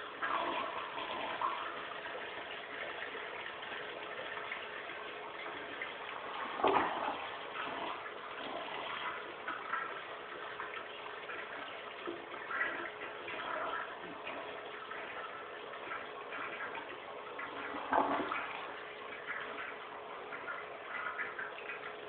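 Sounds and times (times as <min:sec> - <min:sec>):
toilet flushing: 0:00.0 - 0:22.0.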